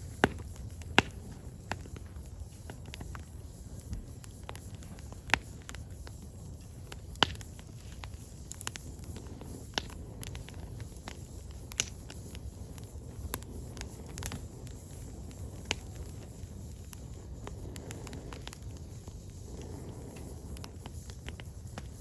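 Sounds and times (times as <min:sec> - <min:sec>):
burning firewood crackling: 0:00.0 - 0:22.0.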